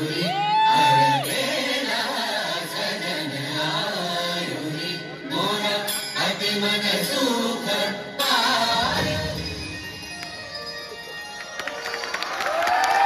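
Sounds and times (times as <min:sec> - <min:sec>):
song over loudspeakers: 0:00.0 - 0:13.0.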